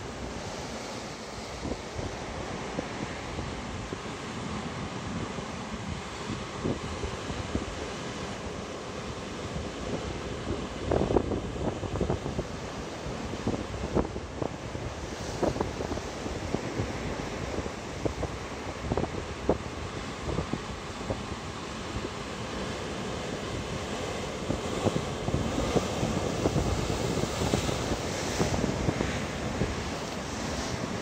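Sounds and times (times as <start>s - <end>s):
waves breaking against rocks: 0.0s - 31.0s
wind buffeting microphone: 0.0s - 31.0s.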